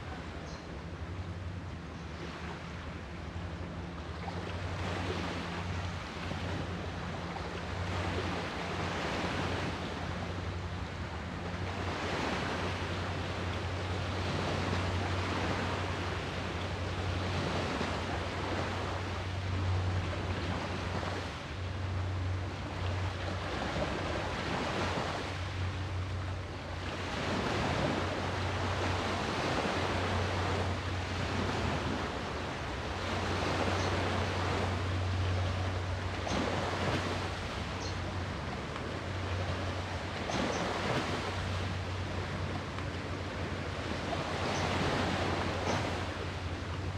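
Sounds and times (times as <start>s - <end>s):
sea waves washing in: 0.0s - 46.9s
steady low hum: 0.0s - 46.9s.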